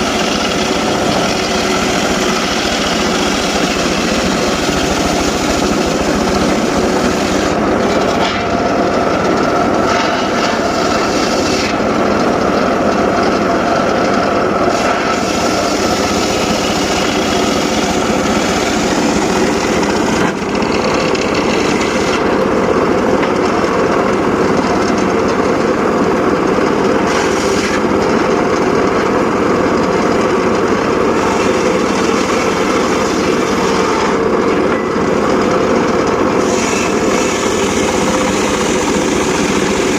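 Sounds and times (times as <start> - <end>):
engine-driven saw cutting wood: 0.0 - 39.9.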